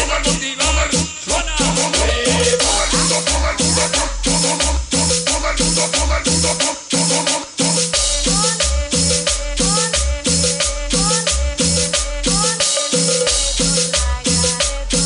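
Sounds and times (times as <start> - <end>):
cumbia music: 0.0 - 15.0.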